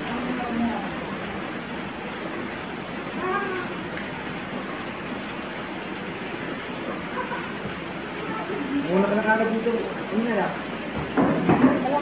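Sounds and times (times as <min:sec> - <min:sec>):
water pouring into pool: 0:00.0 - 0:12.0.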